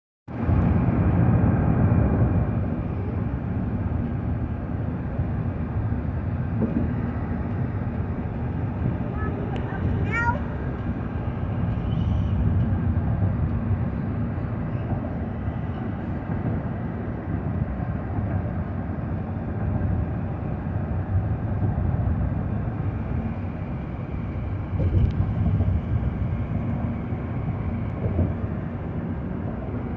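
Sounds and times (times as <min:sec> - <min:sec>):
car tyres and engine rumble: 0:03.8 - 0:29.9.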